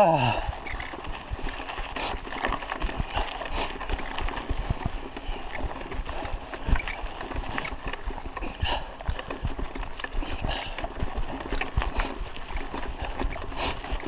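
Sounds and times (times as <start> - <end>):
mountain bike rattling over stones: 0.0 - 14.0.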